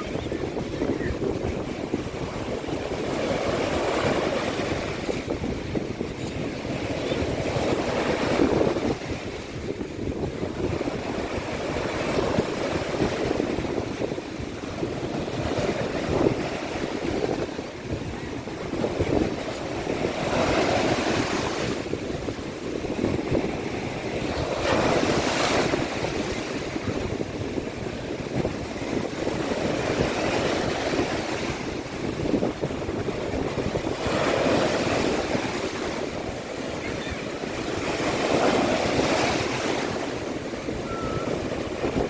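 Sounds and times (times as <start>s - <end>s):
waves washing onto beach: 0.0s - 42.0s
wind rumbling on microphone: 0.0s - 42.0s.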